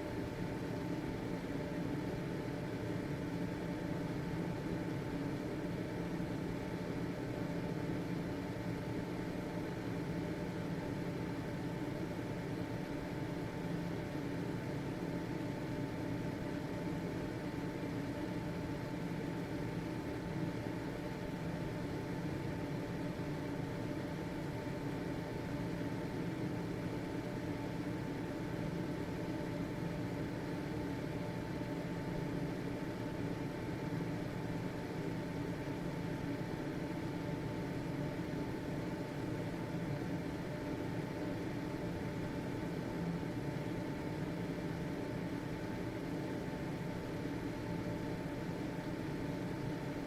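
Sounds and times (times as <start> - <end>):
ventilation fan whirring: 0.0 - 50.0.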